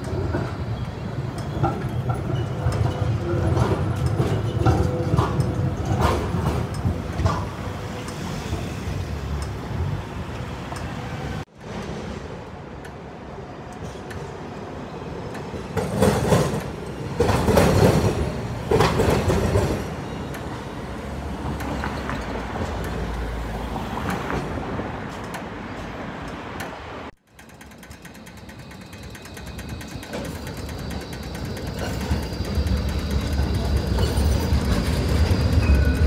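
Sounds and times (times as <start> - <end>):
tram wheels clattering over rails: 0.0 - 13.0, 13.7 - 36.0
road traffic: 0.0 - 36.0
tram approaching: 0.0 - 36.0.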